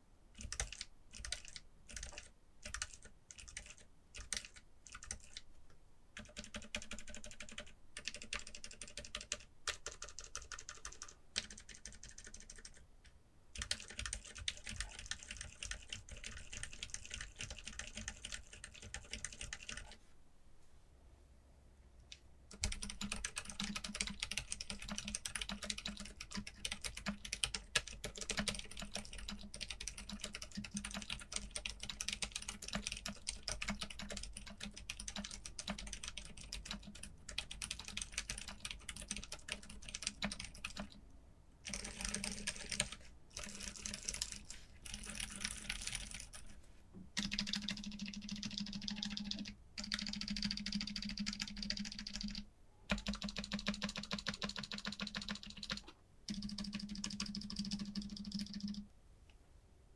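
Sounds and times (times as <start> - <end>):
typing on keyboard: 0.4 - 5.5, 6.2 - 12.8, 13.6 - 20.0, 22.5 - 41.0, 41.6 - 46.6, 47.2 - 58.9.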